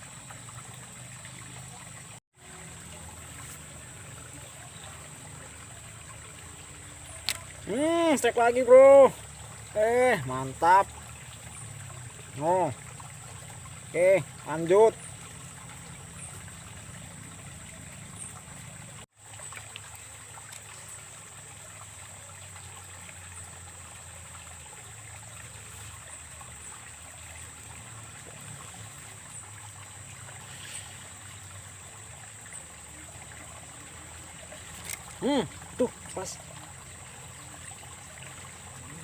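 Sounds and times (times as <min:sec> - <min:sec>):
water trickling in a ditch: 0:00.0 - 0:39.0.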